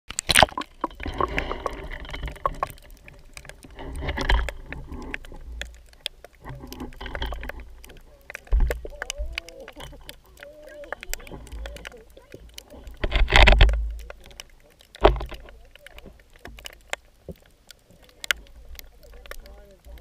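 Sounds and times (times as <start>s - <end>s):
muffled underwater rushing: 0.1s - 20.0s
sharp clicks and crackles: 0.1s - 20.0s.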